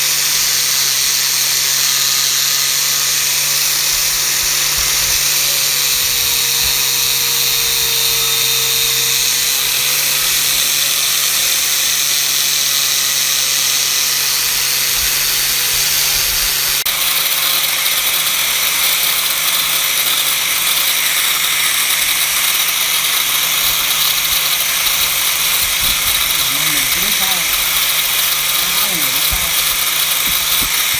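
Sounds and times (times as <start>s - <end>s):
power tool grinding: 0.0s - 30.9s.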